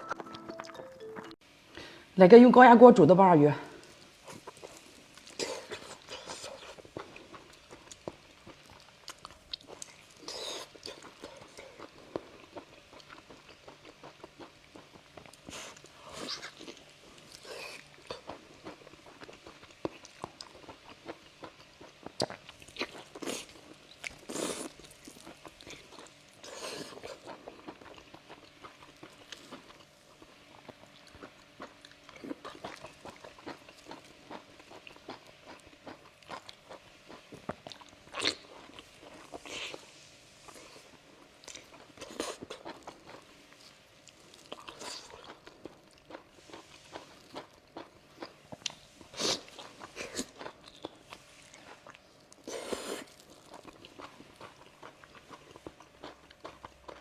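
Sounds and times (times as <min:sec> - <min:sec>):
person chewing seafood: 0:00.0 - 0:02.0, 0:03.8 - 0:57.0.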